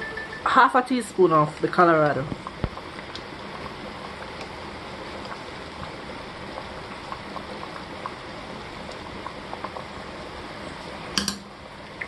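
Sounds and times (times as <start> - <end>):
soup bubbling: 0.0 - 12.0.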